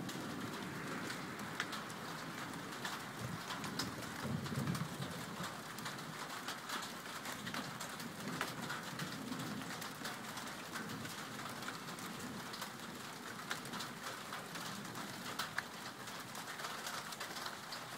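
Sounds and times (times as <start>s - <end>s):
raindrops ticking close by: 0.0s - 17.9s
steady rain falling: 0.0s - 17.9s.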